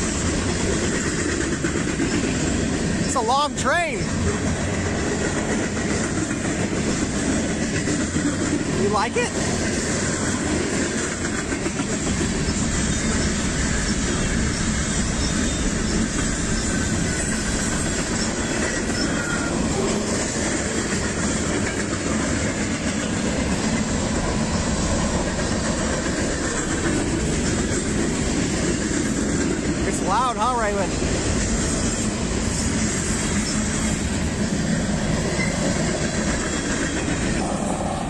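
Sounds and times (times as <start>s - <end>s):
freight train passing: 0.0s - 38.0s.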